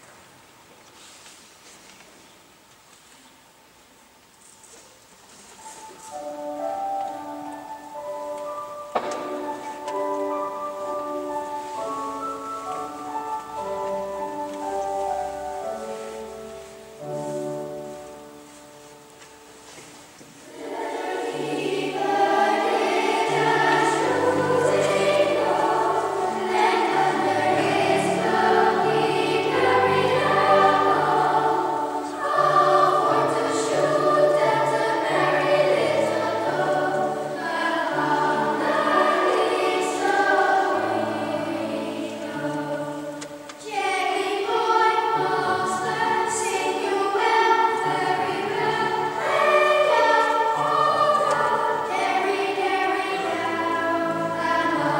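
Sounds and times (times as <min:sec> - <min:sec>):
girls choir singing: 0:05.6 - 0:54.9.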